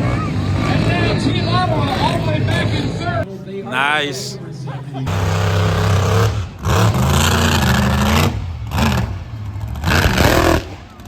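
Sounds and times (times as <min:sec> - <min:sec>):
monster truck engines revving: 0:00.0 - 0:03.0, 0:05.1 - 0:11.0.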